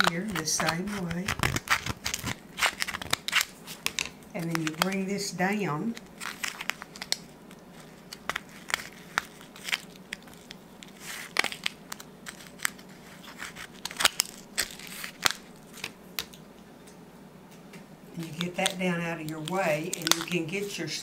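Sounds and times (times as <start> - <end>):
aluminium foil pan crinkling: 0.0 - 16.3, 18.2 - 21.0.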